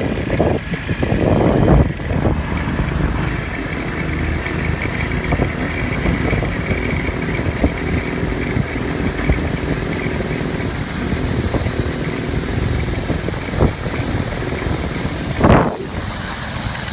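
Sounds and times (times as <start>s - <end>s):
buggy engine rumbling: 0.0s - 16.9s.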